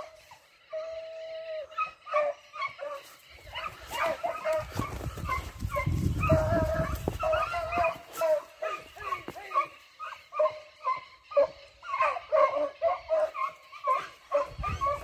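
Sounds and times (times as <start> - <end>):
hound yelping and baying: 0.0 - 15.0.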